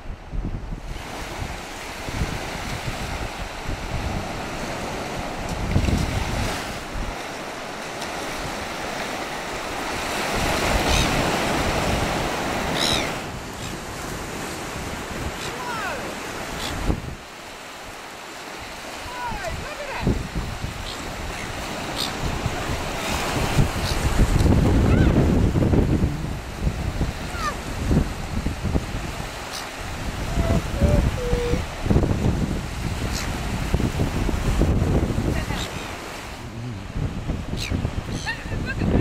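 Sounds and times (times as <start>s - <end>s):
wind buffeting microphone: 0.0s - 17.7s, 18.4s - 39.0s
surf breaking on beach: 0.0s - 39.0s.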